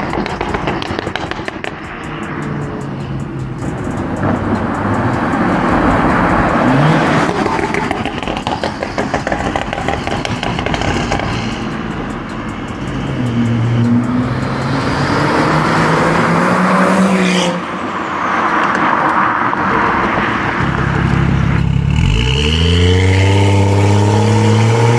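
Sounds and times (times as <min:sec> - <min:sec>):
car exhaust accelerating past: 0:02.4 - 0:12.0, 0:12.9 - 0:24.9.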